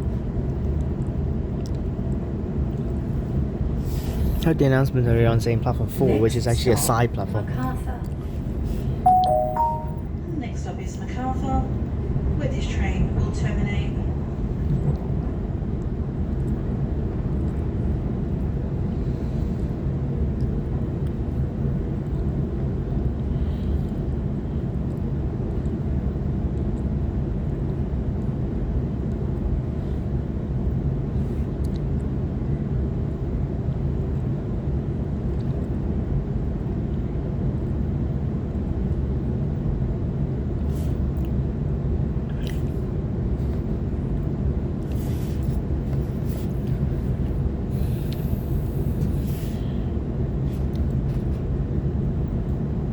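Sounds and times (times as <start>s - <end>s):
train rumble inside carriage: 0.0s - 9.0s, 10.2s - 52.9s.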